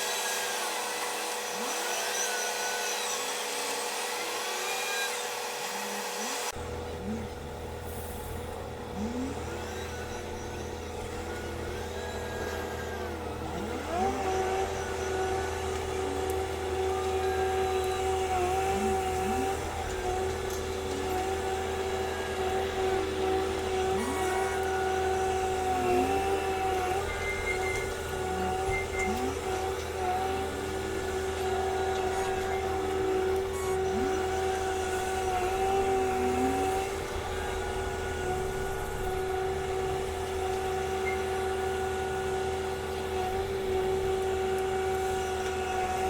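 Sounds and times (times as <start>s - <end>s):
steady high whine: 0.0s - 46.0s
wheel loader diesel engine revving: 6.5s - 46.0s.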